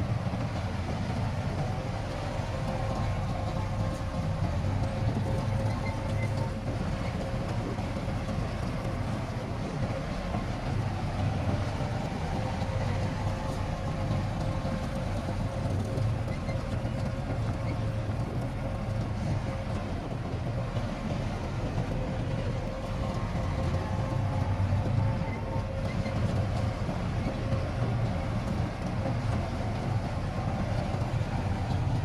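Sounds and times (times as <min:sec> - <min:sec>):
diesel machinery rumbling: 0:00.0 - 0:32.0
faint steady whine: 0:00.0 - 0:32.0.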